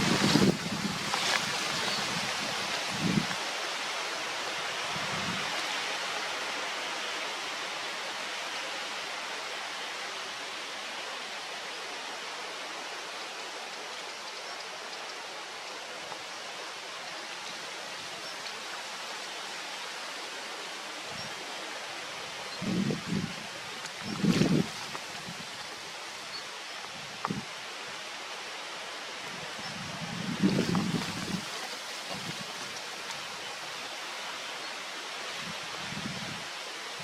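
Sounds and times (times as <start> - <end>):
outdoor hiss: 0.0 - 37.0.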